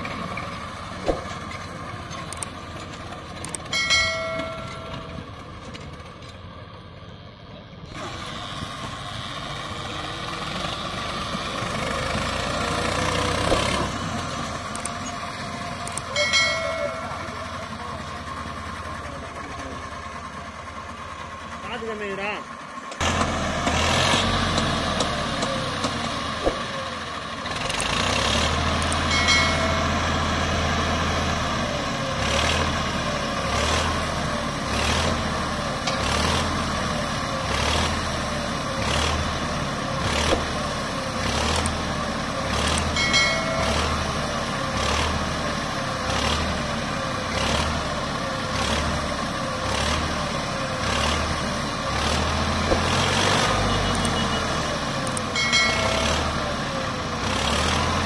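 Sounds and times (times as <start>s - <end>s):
diesel tractor engine throbbing: 0.0s - 58.0s.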